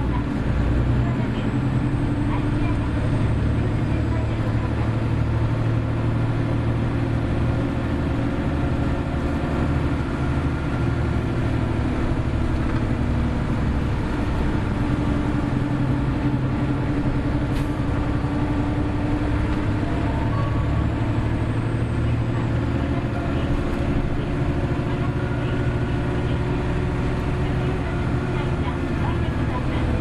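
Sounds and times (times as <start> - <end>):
bus engine droning with whine: 0.0 - 30.0.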